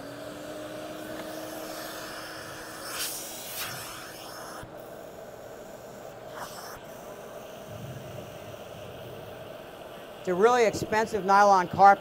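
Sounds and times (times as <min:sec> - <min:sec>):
vacuum motor whining hum: 0:00.0 - 0:12.0.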